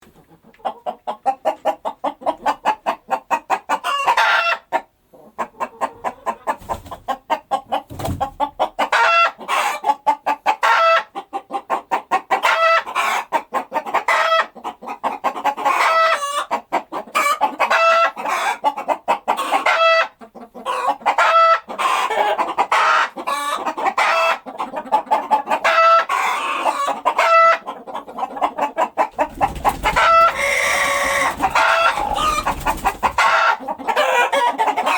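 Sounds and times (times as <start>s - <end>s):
hens cackling: 0.0s - 34.9s.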